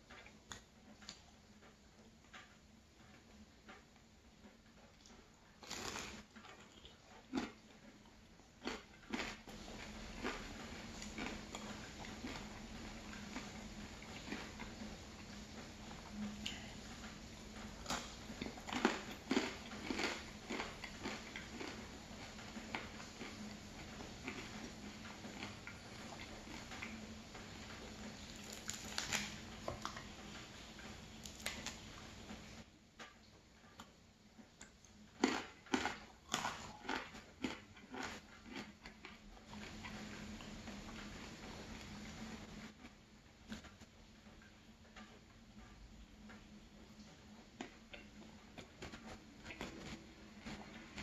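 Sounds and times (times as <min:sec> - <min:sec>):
chewing bread: 0:00.0 - 0:51.0.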